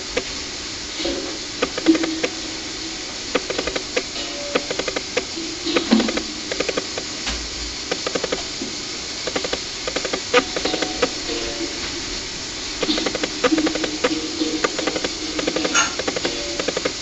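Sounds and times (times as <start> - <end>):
tape hiss: 0.0 - 17.0.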